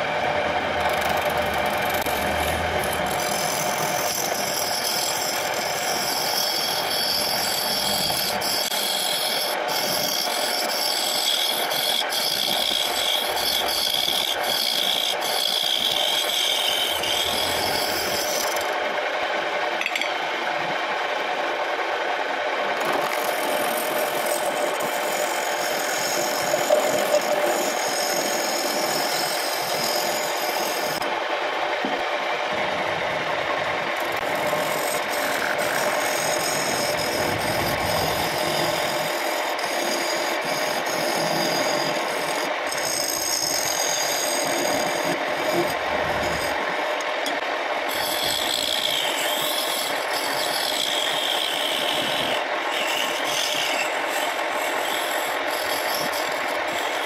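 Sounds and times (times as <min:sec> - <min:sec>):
lathe motor running: 0:00.0 - 0:57.0
chisel scraping wood: 0:00.8 - 0:18.6, 0:22.8 - 0:31.0, 0:34.2 - 0:46.6, 0:47.9 - 0:57.0.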